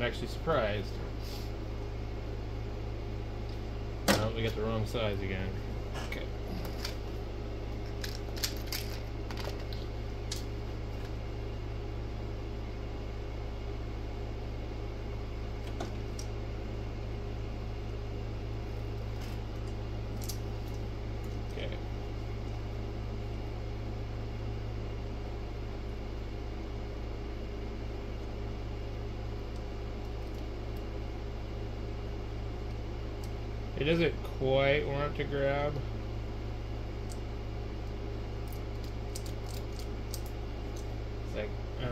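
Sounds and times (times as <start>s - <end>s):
fan hum and hiss: 0.0s - 41.9s.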